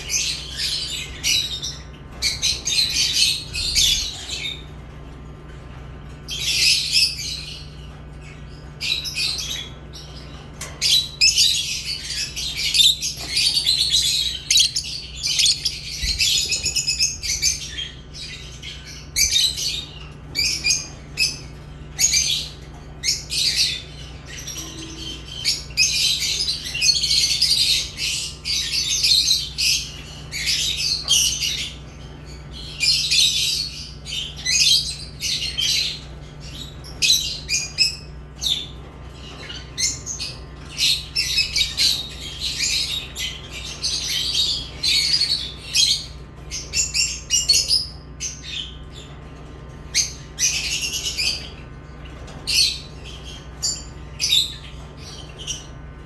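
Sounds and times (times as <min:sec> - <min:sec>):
lovebirds chirping and squawking: 0:00.0 - 0:56.0
steady low hum: 0:00.0 - 0:56.0.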